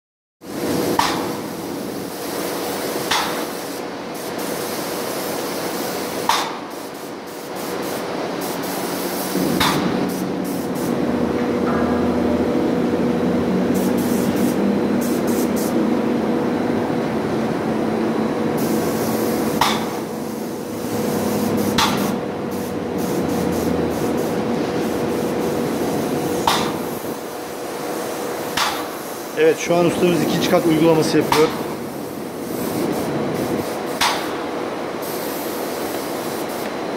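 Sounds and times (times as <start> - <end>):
spray gun hissing: 0.4 - 11.0, 13.7 - 15.8, 18.6 - 36.7.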